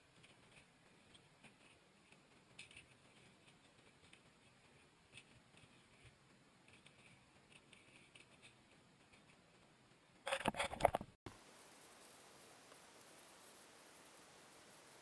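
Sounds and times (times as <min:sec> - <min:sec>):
faint ticks and rustles: 0:00.0 - 0:15.0.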